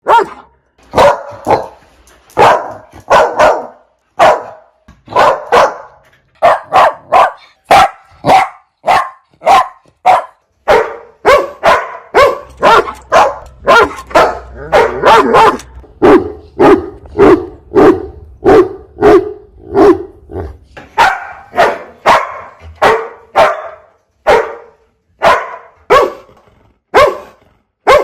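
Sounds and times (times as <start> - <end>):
dog barking: 0.0 - 1.8, 2.4 - 26.3, 26.9 - 28.0.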